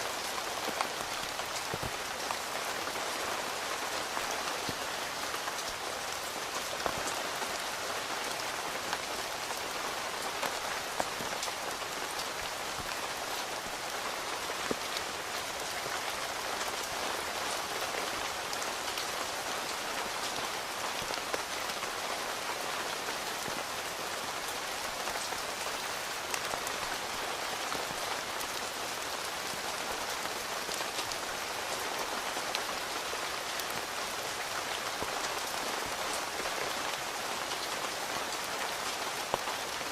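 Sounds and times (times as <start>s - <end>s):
rain on tent fabric: 0.0s - 39.9s.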